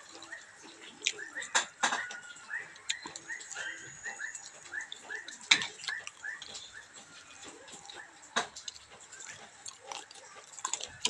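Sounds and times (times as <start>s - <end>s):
dishes clicking and tapping: 0.0s - 11.0s.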